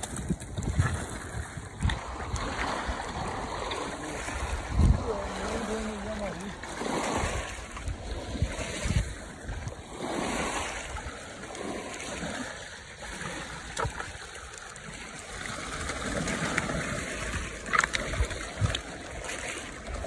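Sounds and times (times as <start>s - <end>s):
small waves lapping on pebbles: 0.0s - 20.0s
water splashing: 0.0s - 20.0s.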